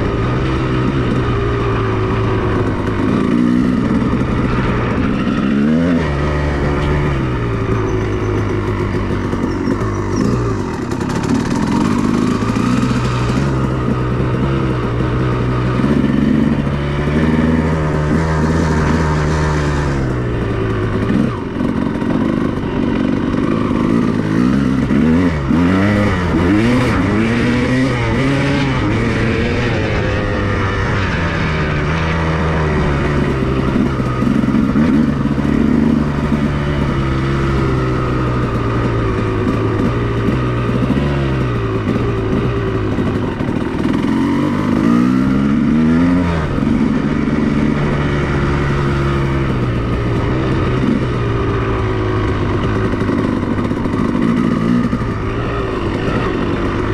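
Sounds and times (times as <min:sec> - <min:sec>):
two-stroke motorcycle engine revving: 0:00.0 - 0:56.9.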